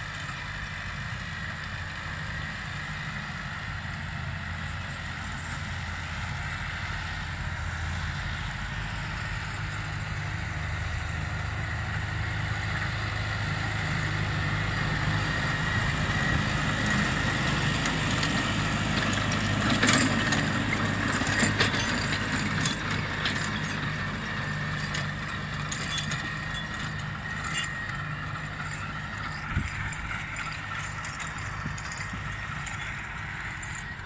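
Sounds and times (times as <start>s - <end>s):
rotary tiller churning soil: 0.0s - 34.0s
tractor diesel engine running: 0.0s - 34.0s.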